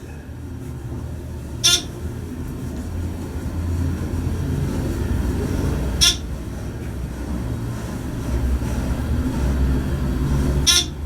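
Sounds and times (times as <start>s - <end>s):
elevator low rumble: 0.0s - 11.0s.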